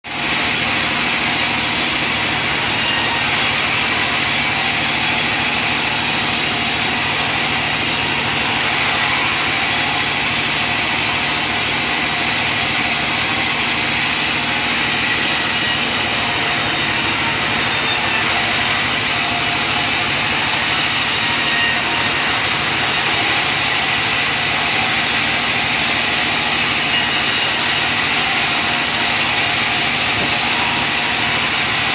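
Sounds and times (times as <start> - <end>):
sawmill machinery drone: 0.0 - 31.9.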